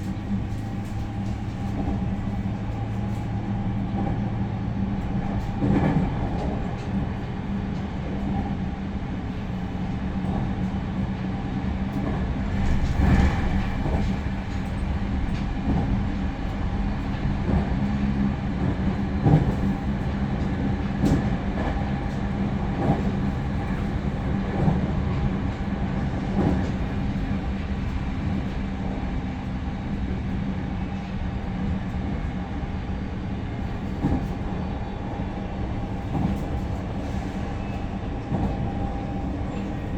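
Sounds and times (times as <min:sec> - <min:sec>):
train rolling hum: 0:00.0 - 0:39.9
rail-joint clacks: 0:05.0 - 0:32.0, 0:33.6 - 0:39.9.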